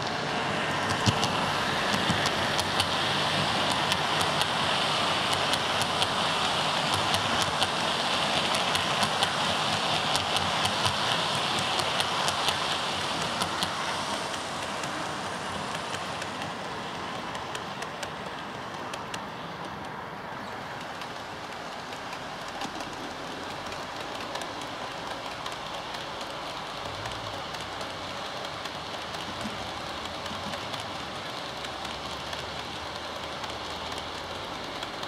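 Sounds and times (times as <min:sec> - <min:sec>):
model train rolling on track: 0:00.0 - 0:35.0
wheels clicking over rail joints: 0:00.0 - 0:35.0.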